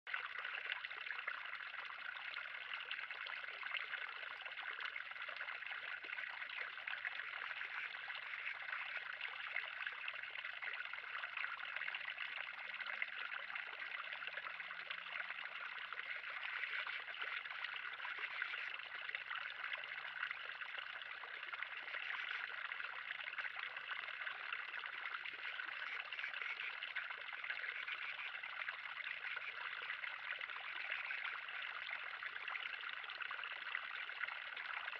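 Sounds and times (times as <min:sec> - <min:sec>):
water trickling and gurgling: 0:00.1 - 0:34.9.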